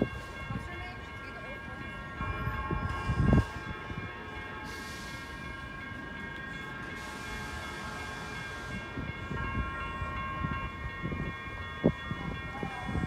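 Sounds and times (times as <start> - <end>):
train low rumble: 0.0 - 13.0
train whine: 0.0 - 13.0.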